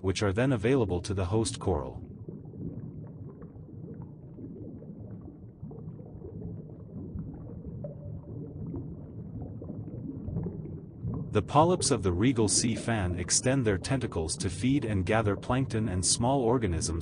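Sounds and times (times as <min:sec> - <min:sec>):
underwater rumble of water: 0:00.0 - 0:17.0.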